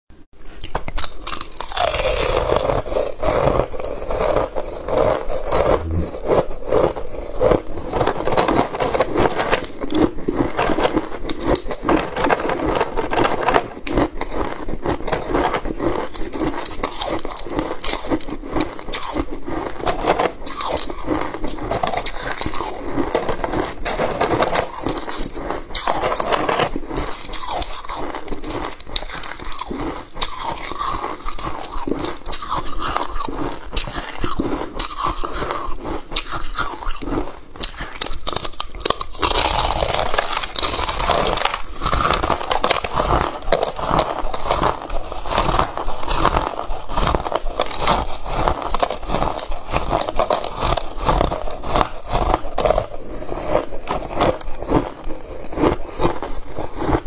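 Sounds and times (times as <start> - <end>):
ice discs cracking and crunching: 0.6 - 57.0.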